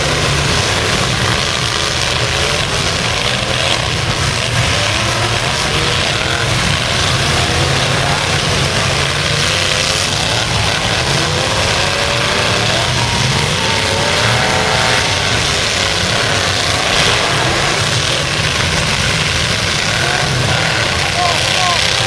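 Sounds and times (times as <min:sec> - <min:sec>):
truck engines revving together: 0:00.0 - 0:22.0.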